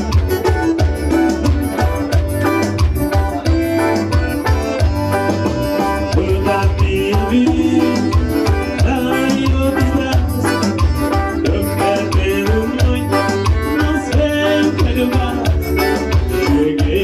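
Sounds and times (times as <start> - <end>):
band playing: 0.0 - 17.0
driving drum beat: 0.0 - 17.0.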